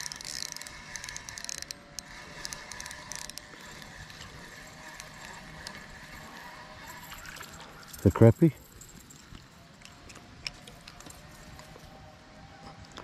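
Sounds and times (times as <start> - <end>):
fishing reel gears whirring: 0.0 - 13.0.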